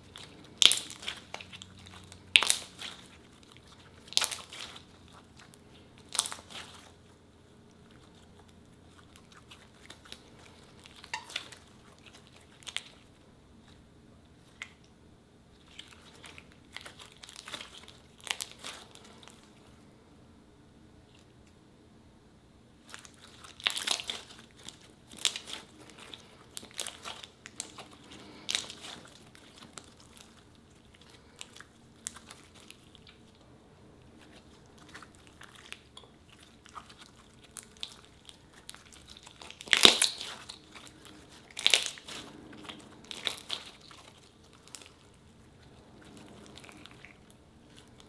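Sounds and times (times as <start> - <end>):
slime crackling and popping: 0.0 - 15.0, 15.6 - 19.7, 22.8 - 48.0.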